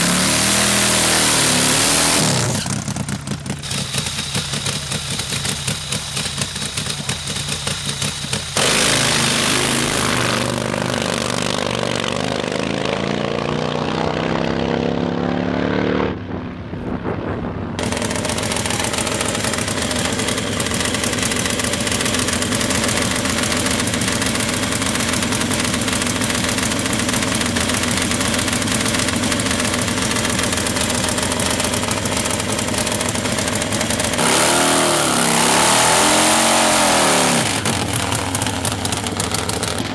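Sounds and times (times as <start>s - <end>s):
drag motorcycle engine roaring: 0.0s - 39.9s.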